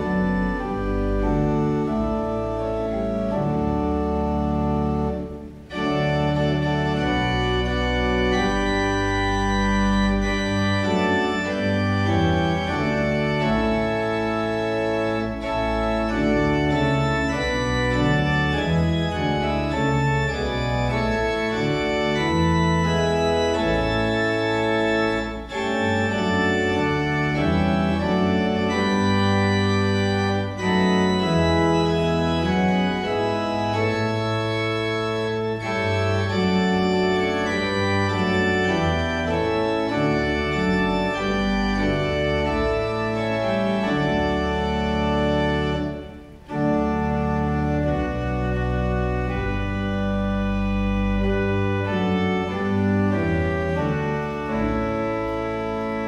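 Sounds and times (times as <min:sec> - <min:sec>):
church organ playing hymn: 0:00.0 - 0:56.0.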